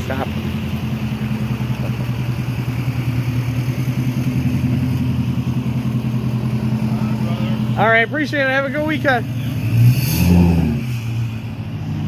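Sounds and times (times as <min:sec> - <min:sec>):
pickup truck engine idling: 0:00.0 - 0:09.9.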